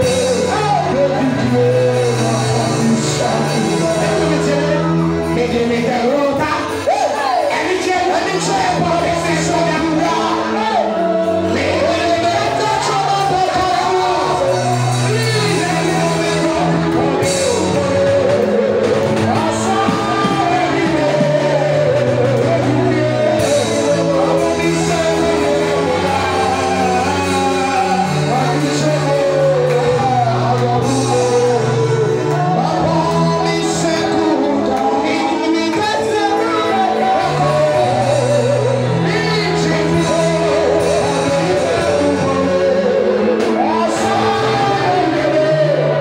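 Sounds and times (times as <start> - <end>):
gospel song sung into microphone: 0.0 - 46.0
instrumental backing with bass line: 0.0 - 46.0.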